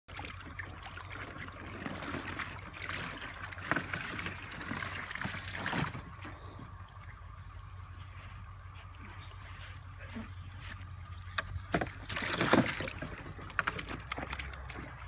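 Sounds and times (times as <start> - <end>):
puppy splashing in water: 0.1 - 15.0.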